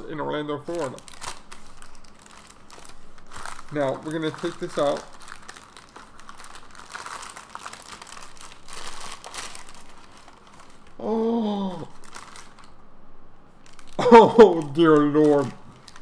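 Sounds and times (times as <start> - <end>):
paper and cellophane crinkling: 0.7 - 11.0, 11.8 - 12.8, 13.6 - 16.0.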